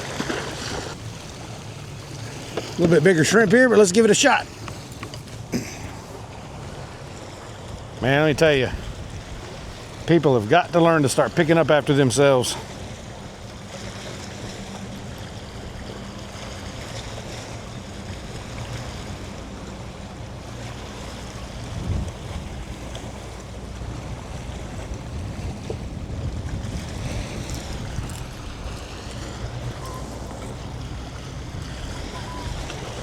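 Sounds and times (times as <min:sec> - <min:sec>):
small waves washing on shore: 0:00.0 - 0:33.0
wind buffeting microphone: 0:02.3 - 0:10.5, 0:14.6 - 0:33.0.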